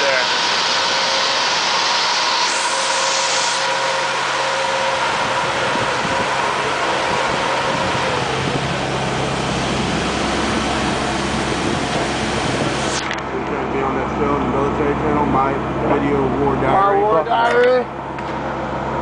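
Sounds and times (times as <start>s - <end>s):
diesel engine idling with whine: 0.0s - 19.0s.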